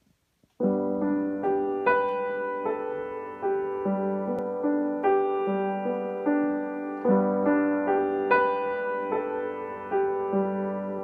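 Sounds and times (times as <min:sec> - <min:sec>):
upright piano playing: 0:00.6 - 0:11.0.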